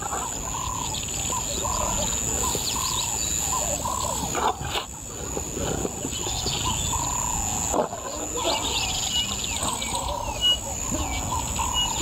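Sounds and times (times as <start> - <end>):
bird chirps: 0.1 - 4.9, 6.0 - 12.0.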